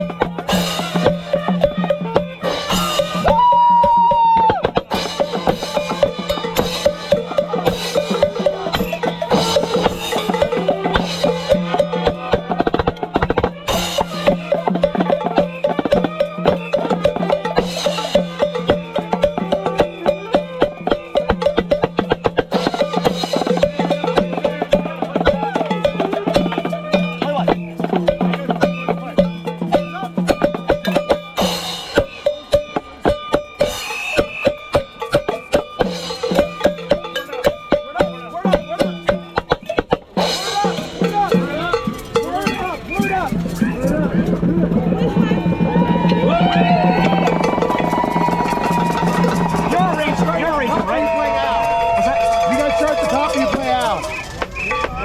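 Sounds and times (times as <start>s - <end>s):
drum band playing: 0.0s - 55.0s.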